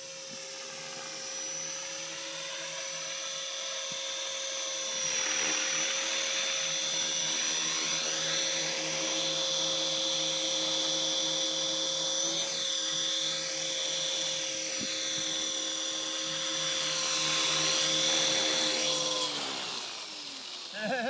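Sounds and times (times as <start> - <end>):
model helicopter motor whine: 0.0 - 21.0
rotor whirring: 0.0 - 21.0.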